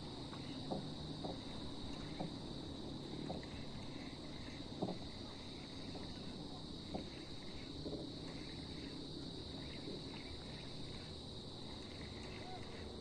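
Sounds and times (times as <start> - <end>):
high insect-like drone: 0.0 - 13.0.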